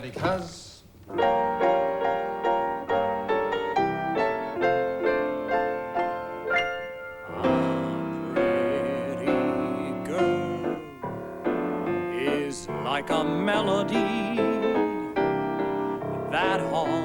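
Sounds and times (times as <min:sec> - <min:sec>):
piano chords: 0:00.0 - 0:17.0
held melody with vibrato: 0:01.1 - 0:17.0.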